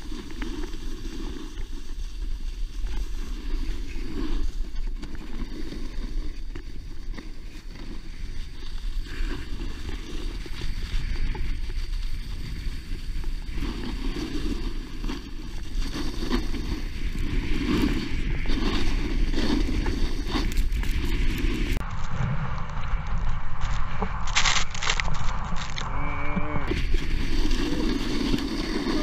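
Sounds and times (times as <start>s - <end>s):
snowboard scraping over snow: 0.0s - 24.5s, 26.5s - 29.0s.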